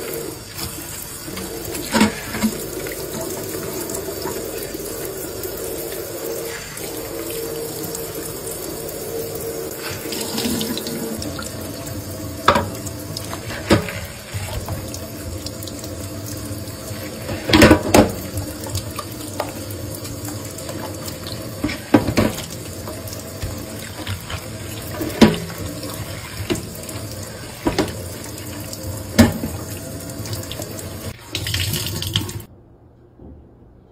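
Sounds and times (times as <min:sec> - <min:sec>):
tap water running into a sink: 0:00.0 - 0:32.5.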